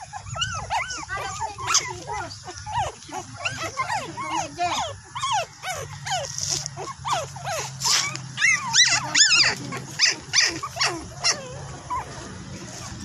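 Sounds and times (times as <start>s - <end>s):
puppy whining and yelping: 0.0s - 13.0s.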